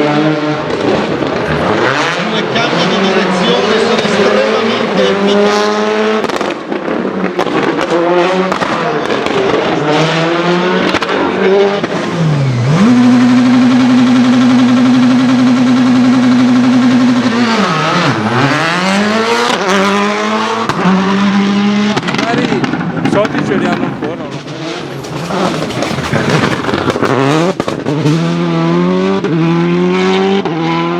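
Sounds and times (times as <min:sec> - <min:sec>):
rally car engine revving: 0:00.0 - 0:30.9.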